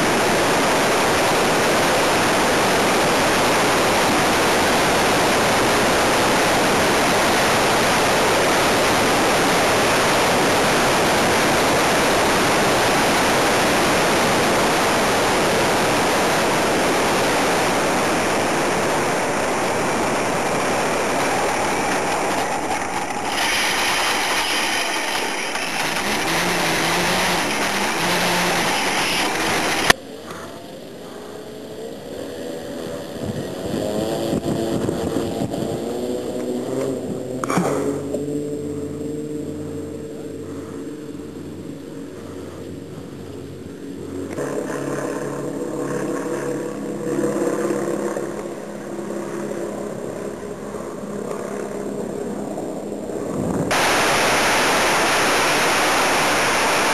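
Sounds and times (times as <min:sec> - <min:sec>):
model airplane motor: 0:00.0 - 0:56.9
model biplane engine running: 0:00.0 - 0:56.9
wind and propeller rush: 0:00.0 - 0:56.9.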